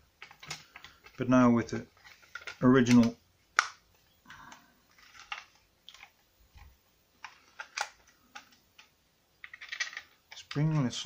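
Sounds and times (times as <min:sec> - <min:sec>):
plastic parts clicking and tapping: 0:00.1 - 0:01.2, 0:01.9 - 0:11.0.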